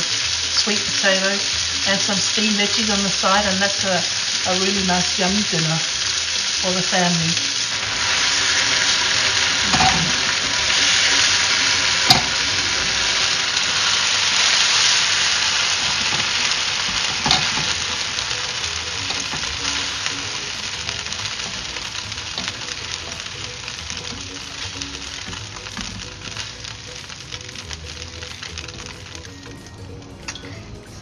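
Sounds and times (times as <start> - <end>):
meat sizzling in oil: 0.0 - 30.6.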